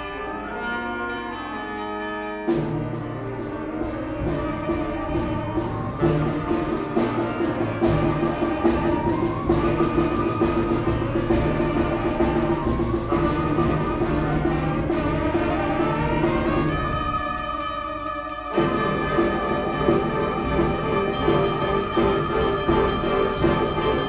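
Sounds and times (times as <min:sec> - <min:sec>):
concert band playing: 0:00.0 - 0:24.0.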